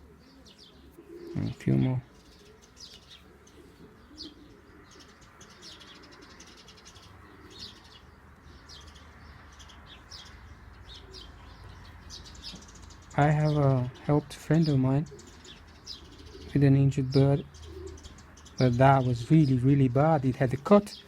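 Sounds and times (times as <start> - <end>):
birds chirping: 0.0 - 21.0
pigeons cooing: 0.0 - 21.0.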